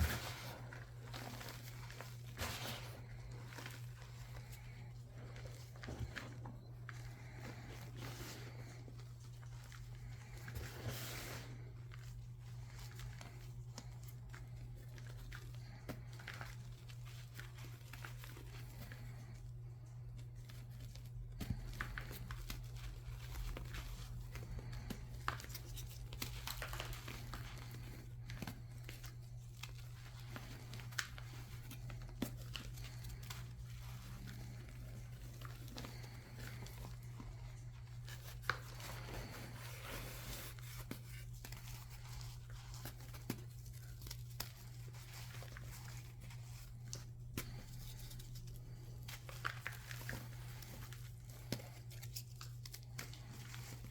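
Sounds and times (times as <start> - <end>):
chalk crumbling and crackling: 0.0 - 53.9
steady low hum: 0.0 - 53.9.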